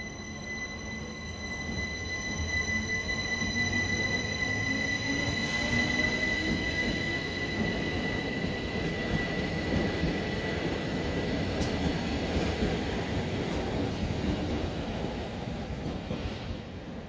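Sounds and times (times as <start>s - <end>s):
train wheels rumbling: 1.5s - 17.0s.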